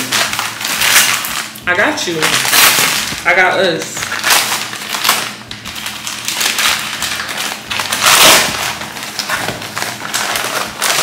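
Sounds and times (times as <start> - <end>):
paper mailer tearing and crinkling: 0.0 - 11.0.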